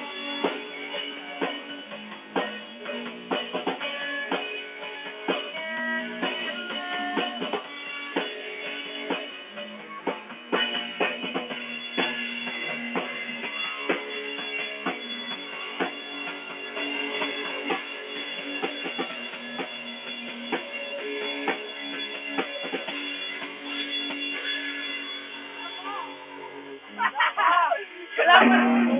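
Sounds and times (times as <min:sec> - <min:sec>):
drum kit beat: 0:00.0 - 0:28.9
rock band playing: 0:00.0 - 0:28.9
sustained guitar chords: 0:00.0 - 0:28.9.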